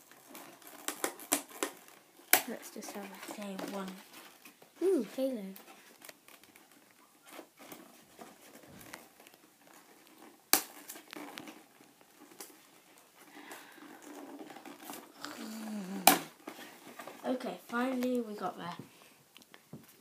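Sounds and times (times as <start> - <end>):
cardboard rustling and scraping: 0.0 - 15.2, 16.3 - 18.0.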